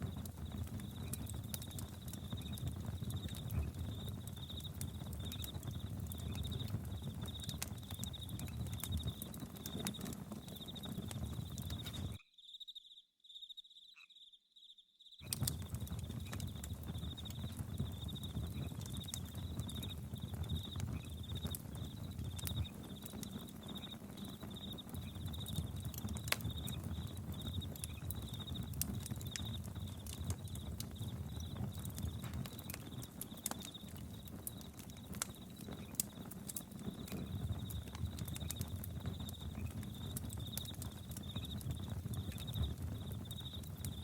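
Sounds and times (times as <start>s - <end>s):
campfire crackling and popping: 0.0s - 12.2s, 15.2s - 44.0s
cricket chirping: 0.0s - 44.0s.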